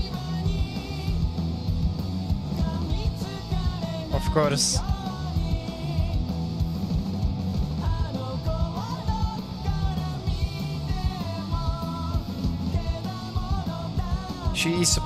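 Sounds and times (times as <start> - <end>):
rock song: 0.0 - 15.0.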